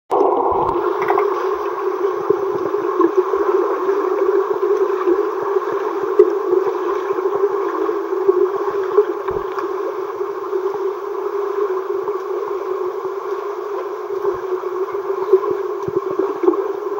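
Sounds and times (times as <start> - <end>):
underwater pool water rush: 0.1 - 16.9.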